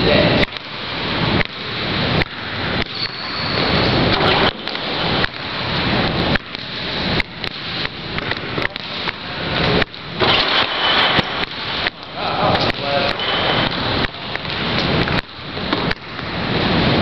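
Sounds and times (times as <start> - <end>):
basketballs bouncing: 2.2 - 16.3.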